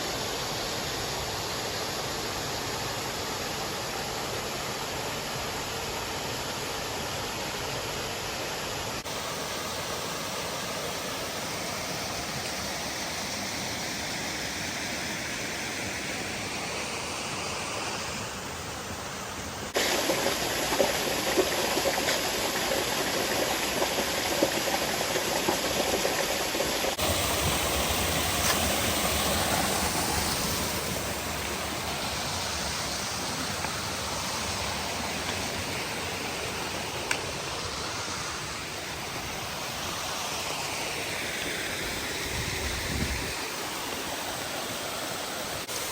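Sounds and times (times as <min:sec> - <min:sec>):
waterfall rushing: 0:06.6 - 0:45.9.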